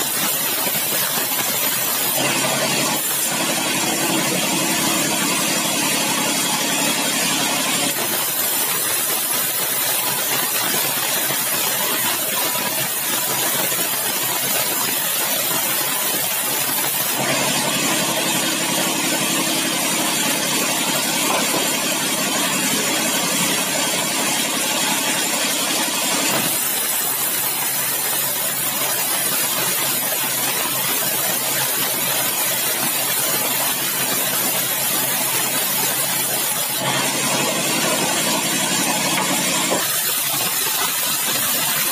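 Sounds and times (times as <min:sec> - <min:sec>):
band saw cutting wood: 0:00.0 - 0:41.9.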